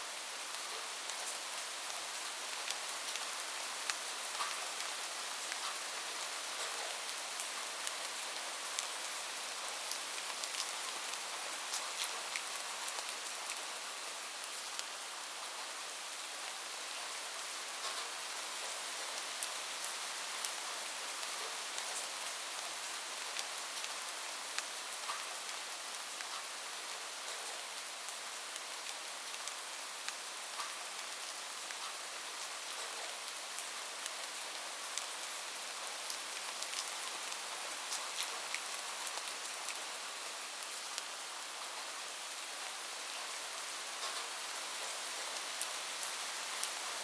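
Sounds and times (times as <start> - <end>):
steady rain hissing: 0.0 - 47.0
raindrops ticking on a surface: 0.4 - 15.8, 17.0 - 47.0.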